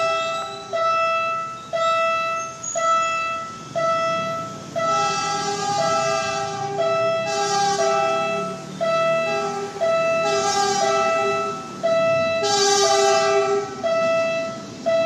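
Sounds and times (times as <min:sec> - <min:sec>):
diesel railcar rumble: 0:00.0 - 0:15.0
railroad crossing bell ringing: 0:00.0 - 0:15.0.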